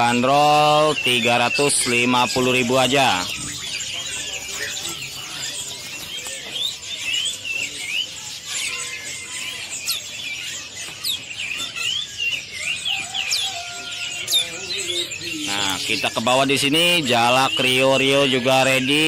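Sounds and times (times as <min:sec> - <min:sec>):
birds chirping and whistling: 0:00.0 - 0:19.0.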